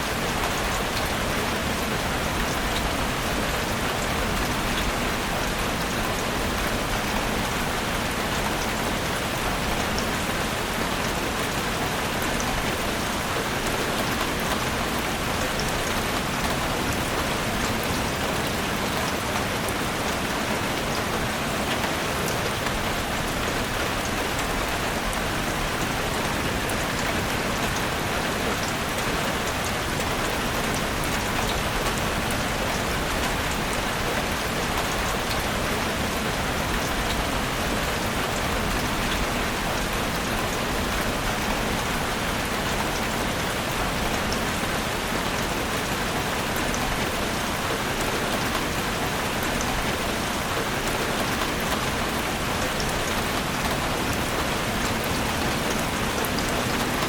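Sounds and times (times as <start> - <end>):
rain falling in a forest: 0.0 - 57.0.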